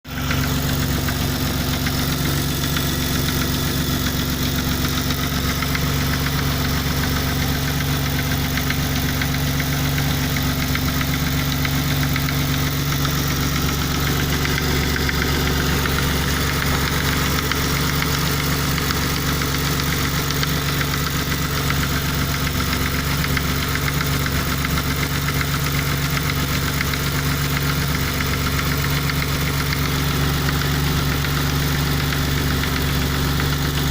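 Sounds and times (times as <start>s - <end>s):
car engine idling with clattering knock: 0.1s - 33.9s.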